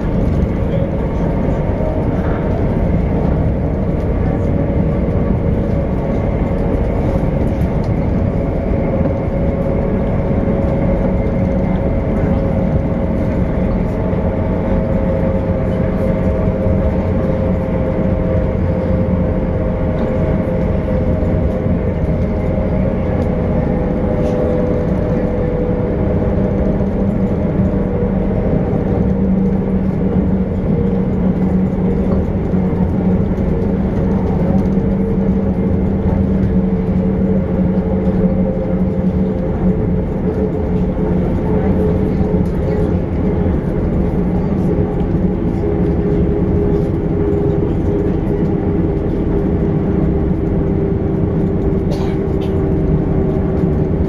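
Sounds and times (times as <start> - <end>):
train wheels rumbling: 0.0 - 54.0
train whine: 0.0 - 54.0.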